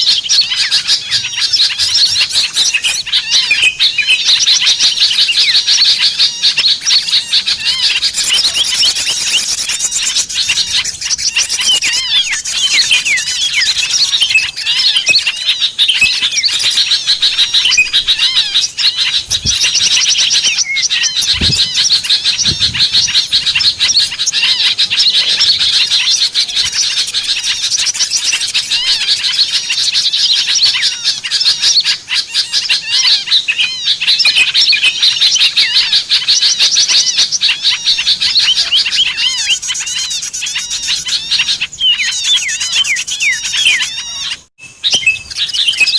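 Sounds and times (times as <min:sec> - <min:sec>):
small songbirds chattering: 0:00.0 - 0:45.9.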